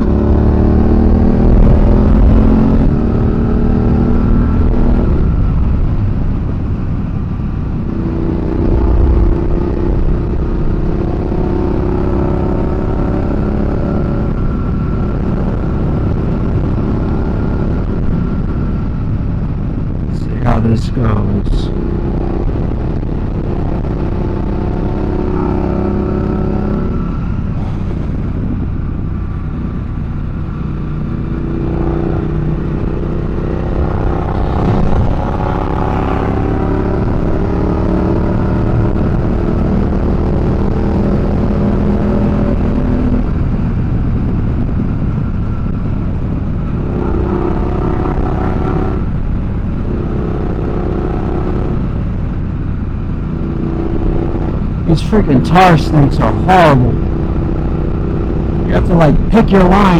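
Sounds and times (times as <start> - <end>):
motorcycle engine accelerating: 0.0 - 20.2, 21.7 - 54.9
wind and road noise: 0.0 - 59.9.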